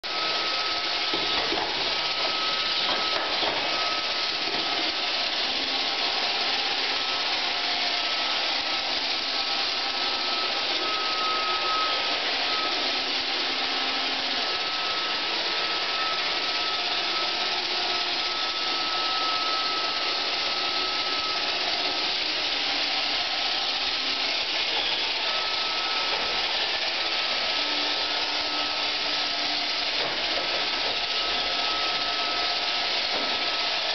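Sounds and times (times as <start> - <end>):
robot vacuum whirring hiss: 0.1 - 33.9
thin steady whine: 0.1 - 33.9.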